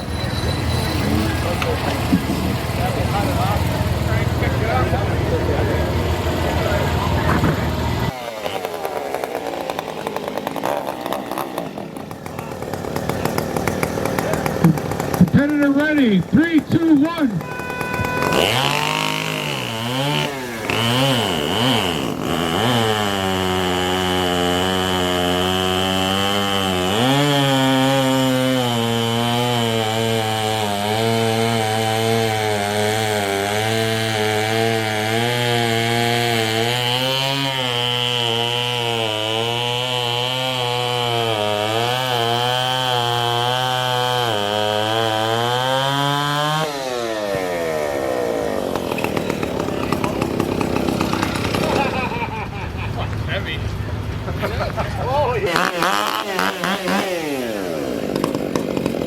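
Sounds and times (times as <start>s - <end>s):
chainsaw cutting log: 0.0s - 53.3s, 54.7s - 59.0s.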